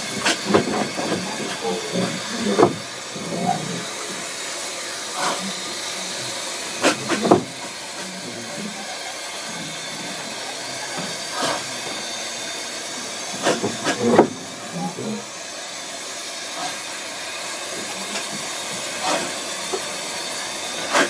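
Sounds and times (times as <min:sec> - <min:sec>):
steam engine exhaust beats: 0:00.0 - 0:21.0
steam hissing: 0:00.0 - 0:21.0.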